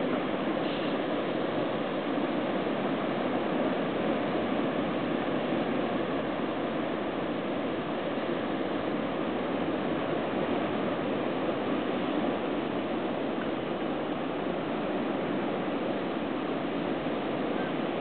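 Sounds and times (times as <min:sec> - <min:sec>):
surf washing: 0:00.0 - 0:18.0.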